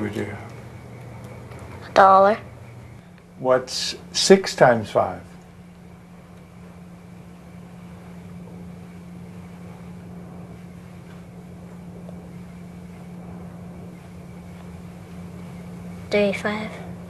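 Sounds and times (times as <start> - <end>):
background hiss: 0.0 - 17.0
low hum: 0.0 - 17.0.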